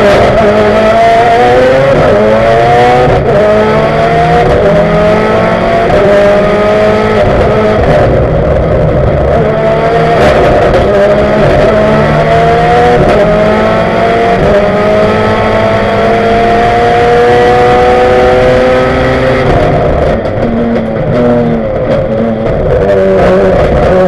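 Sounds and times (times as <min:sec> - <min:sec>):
rally car engine at full throttle: 0:00.0 - 0:24.0.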